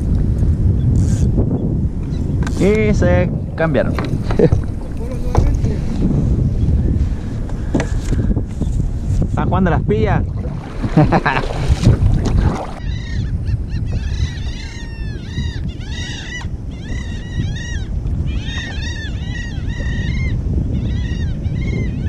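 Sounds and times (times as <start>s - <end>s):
wind and water rushing: 0.0s - 20.9s
seabirds calling: 0.8s - 8.8s, 10.2s - 22.0s.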